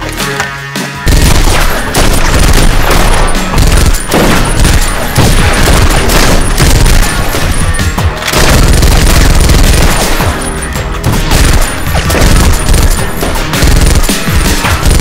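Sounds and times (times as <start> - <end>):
soundtrack music: 0.0 - 15.0
gunfire and booms: 1.1 - 15.0.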